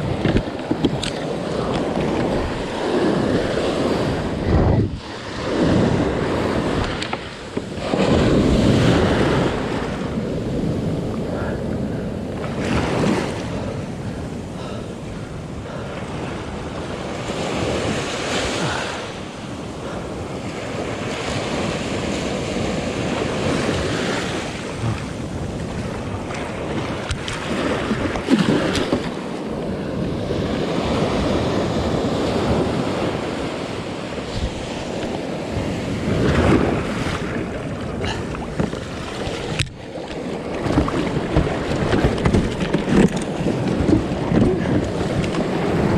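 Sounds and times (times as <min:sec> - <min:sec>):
ocean surf washing in: 0:00.0 - 0:45.9
wind buffeting microphone: 0:00.0 - 0:45.9.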